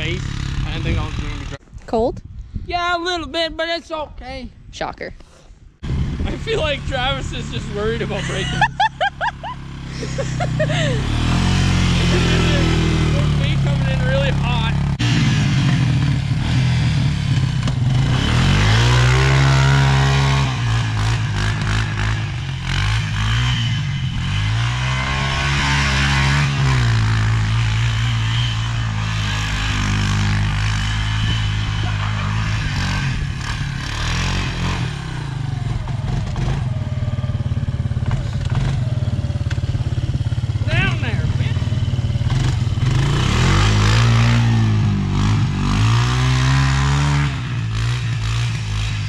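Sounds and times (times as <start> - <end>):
atv engine revving: 0.0 - 1.6, 5.8 - 49.0.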